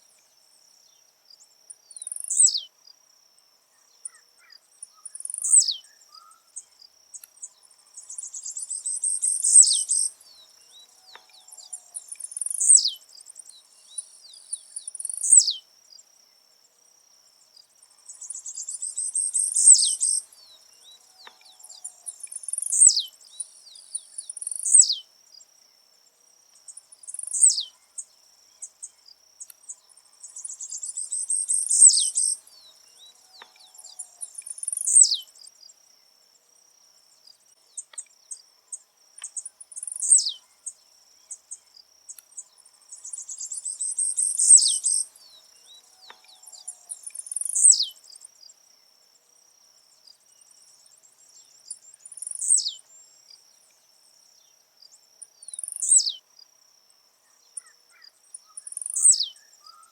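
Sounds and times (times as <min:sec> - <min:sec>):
bird singing buzzy high song: 0:00.0 - 0:56.6, 0:57.2 - 0:59.9.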